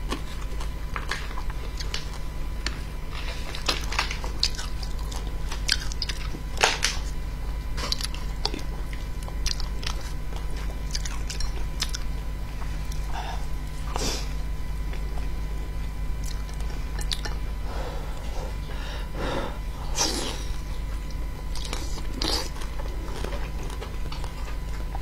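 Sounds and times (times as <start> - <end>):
chewing and mouth smacks: 0.0 - 7.2, 7.8 - 14.0, 14.9 - 17.4, 20.9 - 25.0
steady low hum: 0.0 - 25.0.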